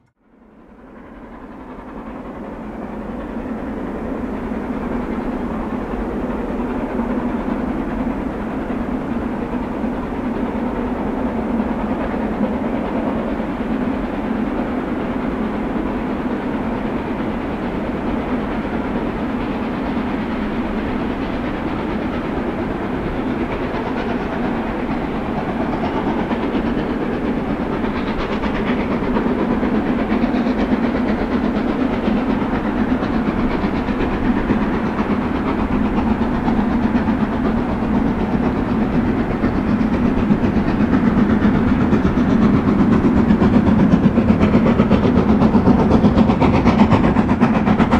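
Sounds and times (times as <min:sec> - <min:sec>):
train rumble and clatter on rails: 0:00.0 - 0:47.9.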